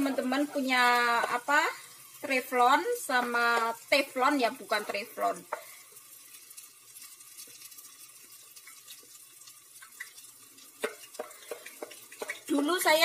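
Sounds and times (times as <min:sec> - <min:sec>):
fritter sizzling in hot oil: 0:00.0 - 0:13.0.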